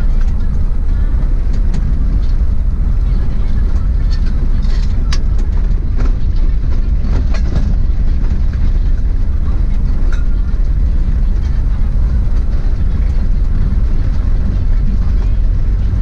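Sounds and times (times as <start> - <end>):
vehicle knocks and rattles: 0.0 - 16.0
vehicle rumbling on rough track: 0.0 - 16.0.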